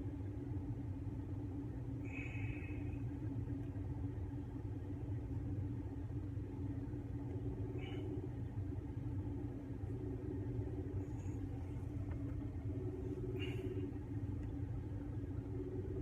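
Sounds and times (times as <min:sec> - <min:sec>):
low mechanical rumble: 0:00.0 - 0:16.0.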